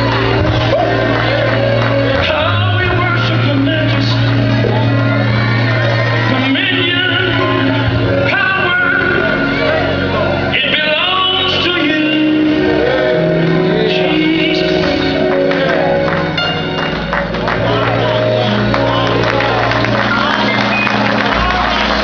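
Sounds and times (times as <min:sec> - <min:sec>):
band playing: 0:00.0 - 0:22.0.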